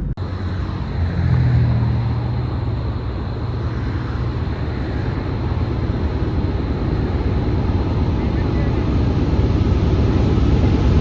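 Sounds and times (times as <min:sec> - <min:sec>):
low hum: 0:00.0 - 0:11.0
road and engine rumble: 0:00.0 - 0:11.0.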